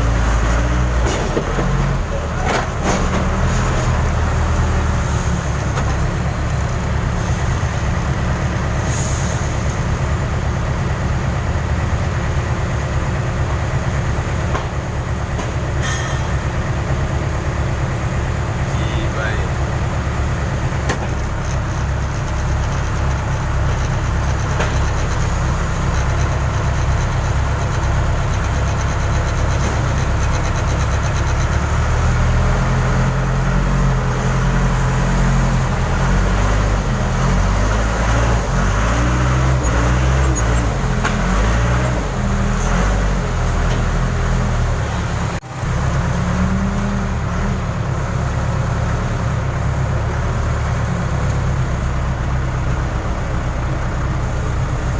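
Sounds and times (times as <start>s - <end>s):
diesel engine running under load: 0.0s - 54.9s.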